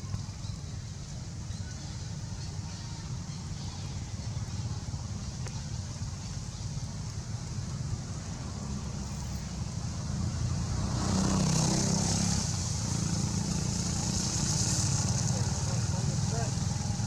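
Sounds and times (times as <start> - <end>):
engine rumbling: 0.0 - 17.0
steady high hiss: 0.0 - 17.0.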